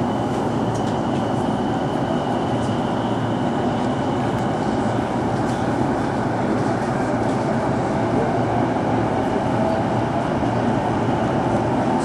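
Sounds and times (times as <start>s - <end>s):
train wheels and motors running: 0.0s - 12.0s.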